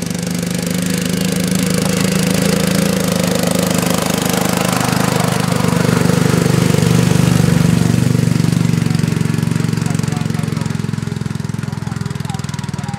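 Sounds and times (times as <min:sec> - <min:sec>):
lawn mower engine racing: 0:00.0 - 0:12.9.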